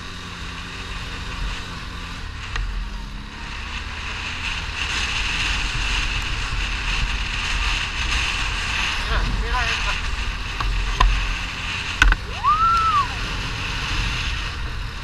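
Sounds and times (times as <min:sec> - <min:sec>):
atv engine running: 0:00.0 - 0:15.0
tyres over sand and gravel: 0:00.0 - 0:15.0
wind hiss on microphone: 0:00.2 - 0:15.0.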